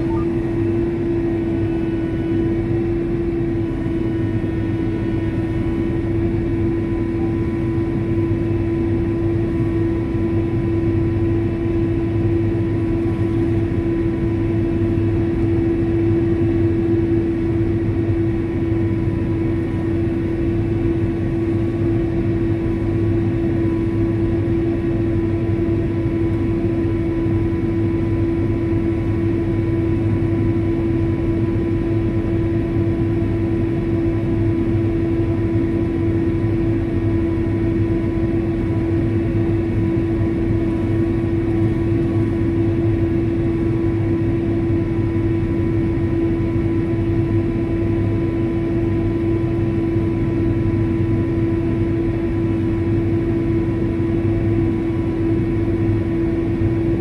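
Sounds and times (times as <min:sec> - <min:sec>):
engine drone inside cab: 0:00.0 - 0:57.0.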